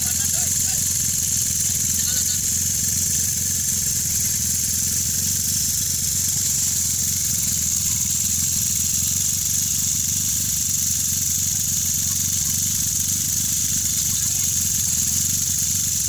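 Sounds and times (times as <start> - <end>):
high hiss: 0.0 - 16.0
small engine idling: 0.0 - 16.0.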